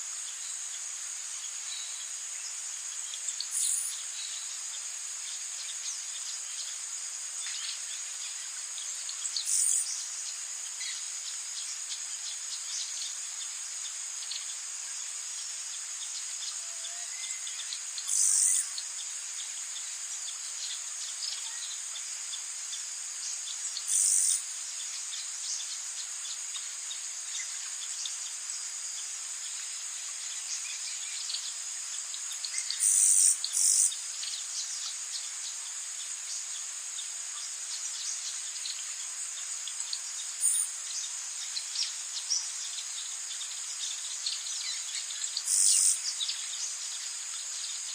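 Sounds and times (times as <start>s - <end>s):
faint chirps: 0.0s - 47.9s
high-pitched insect chorus: 0.0s - 47.9s.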